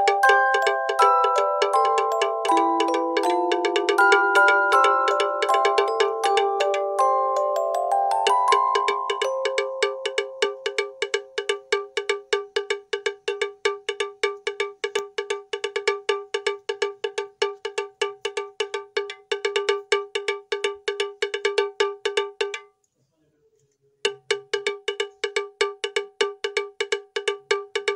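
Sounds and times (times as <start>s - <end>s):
fast cowbell-like percussion: 0.0s - 22.7s, 24.1s - 27.9s.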